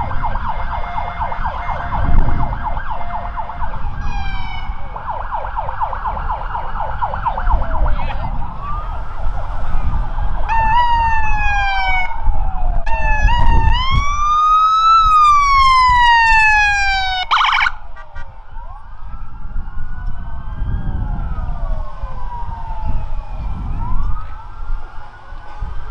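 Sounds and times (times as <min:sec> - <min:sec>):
siren wail: 0:00.0 - 0:25.9
siren yelp: 0:00.0 - 0:25.9.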